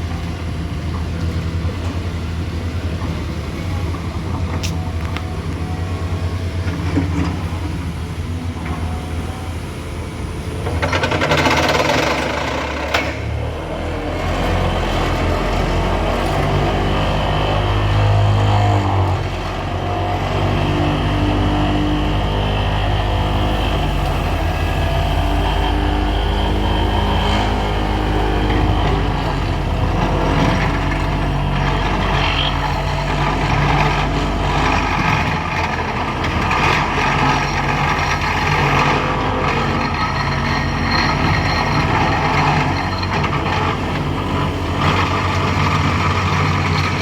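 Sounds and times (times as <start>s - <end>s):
deep steady engine drone: 0.0s - 47.0s
vehicle engines on road: 0.0s - 47.0s.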